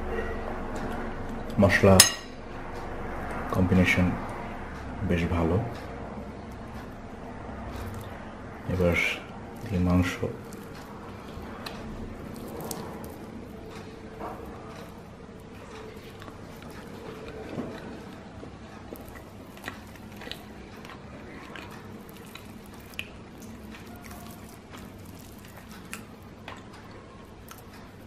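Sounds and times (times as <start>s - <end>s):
faint steady hum: 0.0s - 28.0s
soft eating sounds: 0.0s - 28.0s.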